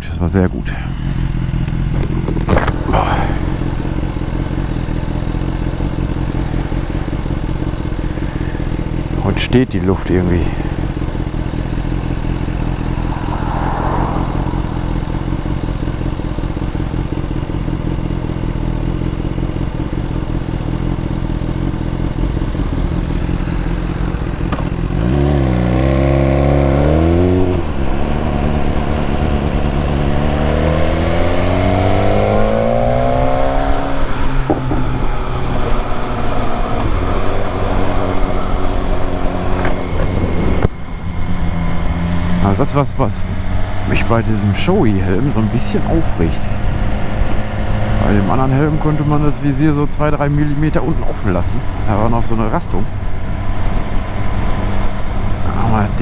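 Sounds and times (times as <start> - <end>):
motorcycle engine revving: 1.0 - 56.0.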